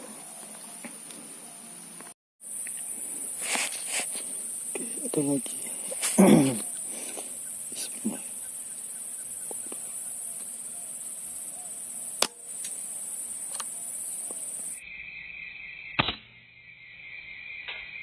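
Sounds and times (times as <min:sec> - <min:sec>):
high-pitched insect drone: 0:00.0 - 0:18.0
low insect whine: 0:00.0 - 0:18.0.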